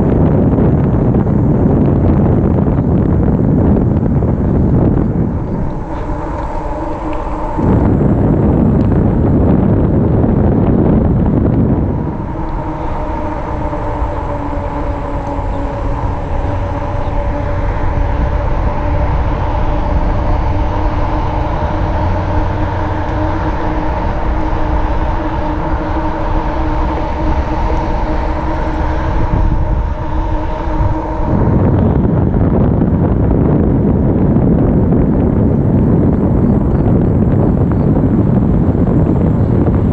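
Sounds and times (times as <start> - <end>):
e-bike whine: 0.0 - 39.9
wind rumble on microphone: 0.0 - 39.9.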